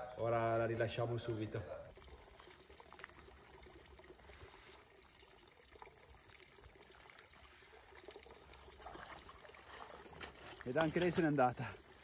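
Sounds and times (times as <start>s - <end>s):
water trickling and lapping: 1.7s - 12.0s.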